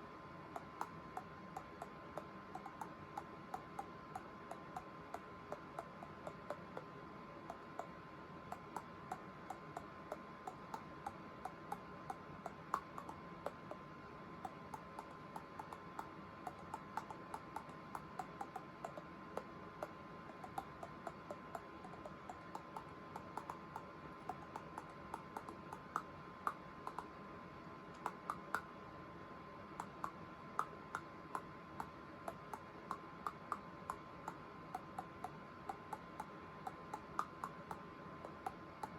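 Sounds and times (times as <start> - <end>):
faint steady tone: 0.0 - 38.9
teeth clicking rhythmically: 0.5 - 27.2, 27.9 - 28.8, 29.7 - 38.9.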